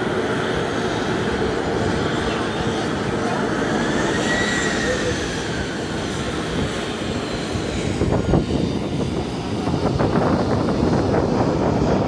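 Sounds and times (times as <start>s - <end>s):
jet engines rumbling roar: 0.0s - 12.0s.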